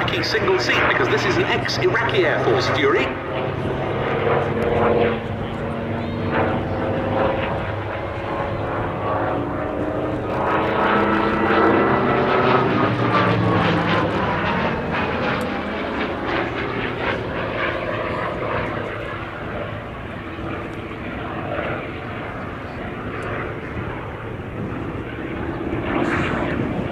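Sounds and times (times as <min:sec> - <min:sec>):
radial aircraft engine in flight: 0:00.0 - 0:26.9.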